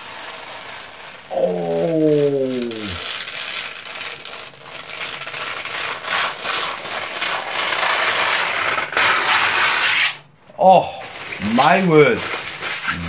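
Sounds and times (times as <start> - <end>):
plastic film being peeled off: 0.0 - 10.2, 11.0 - 13.0.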